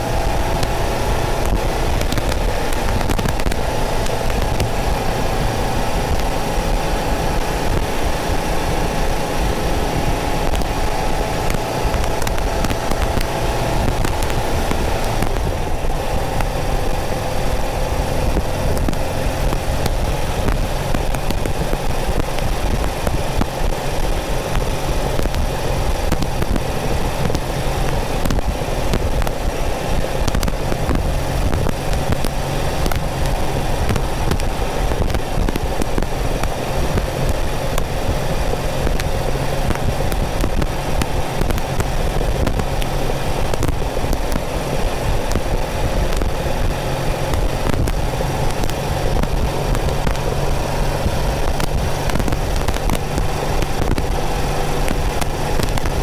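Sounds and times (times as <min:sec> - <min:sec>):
car engine running: 0:00.0 - 0:56.0
crackling static clicks: 0:00.0 - 0:56.0.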